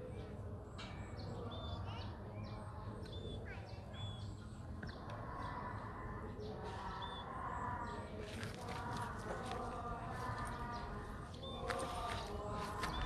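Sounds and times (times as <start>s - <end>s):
birds chirping: 0.0s - 13.0s
faint murmuring voices: 0.0s - 13.0s.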